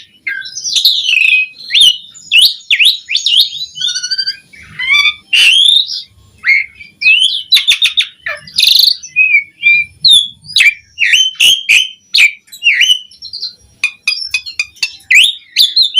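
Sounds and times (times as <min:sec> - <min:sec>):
starling singing: 0:00.0 - 0:15.9.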